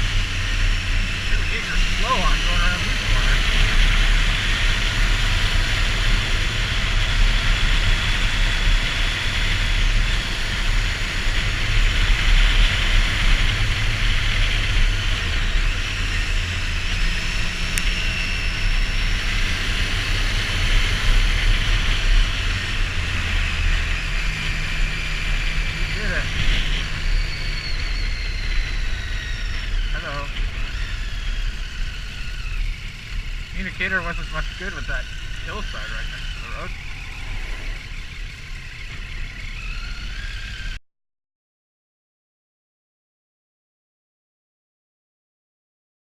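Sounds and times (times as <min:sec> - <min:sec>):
motorcycle engine running: 0:00.0 - 0:40.8.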